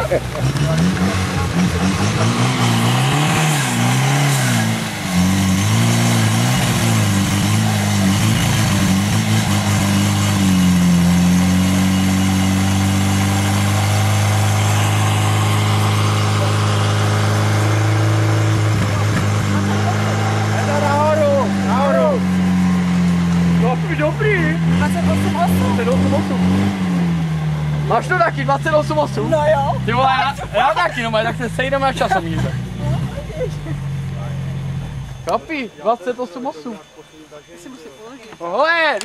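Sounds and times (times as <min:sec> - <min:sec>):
petrol engine revving: 0:00.0 - 0:38.6.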